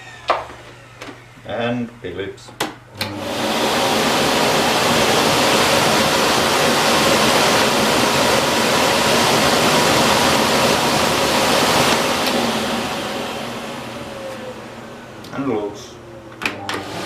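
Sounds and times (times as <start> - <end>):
vacuum cleaner running: 2.9 - 17.0.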